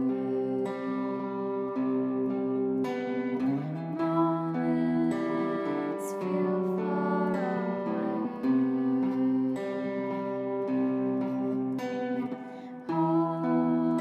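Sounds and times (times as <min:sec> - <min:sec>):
electric guitar chords: 0:00.0 - 0:14.0.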